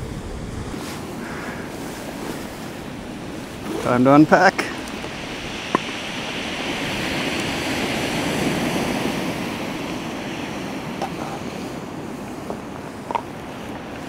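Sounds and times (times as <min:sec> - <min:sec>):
surf breaking on pebbles: 0:00.0 - 0:14.0
wind buffeting microphone: 0:00.0 - 0:14.0.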